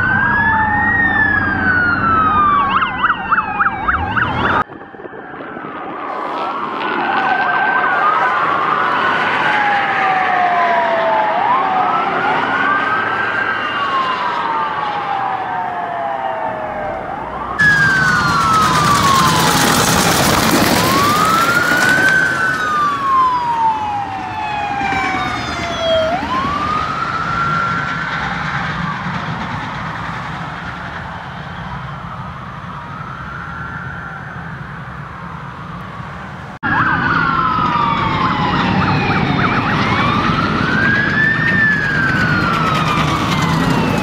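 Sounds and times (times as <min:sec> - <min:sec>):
engine and tyre noise: 0:00.0 - 0:44.0
police sirens wailing: 0:00.0 - 0:44.0.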